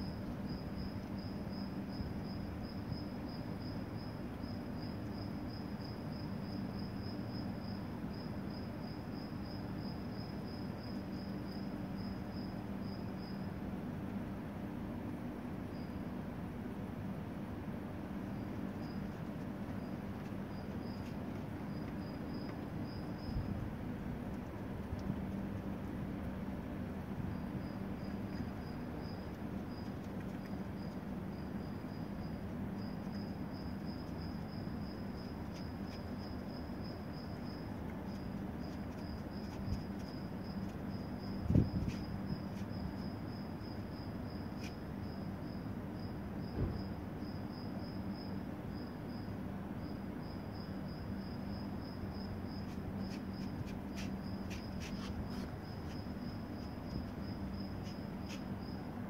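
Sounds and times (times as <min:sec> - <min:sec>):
cricket chirping in pulses: 0:00.0 - 0:59.0
steady low hum: 0:00.0 - 0:59.0.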